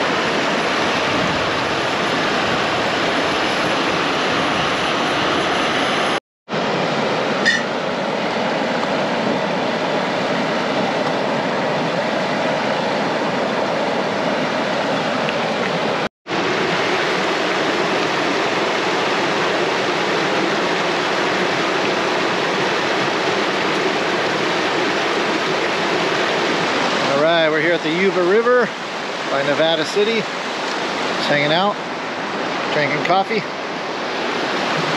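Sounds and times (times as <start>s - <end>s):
river rapids rushing: 0.0s - 34.9s.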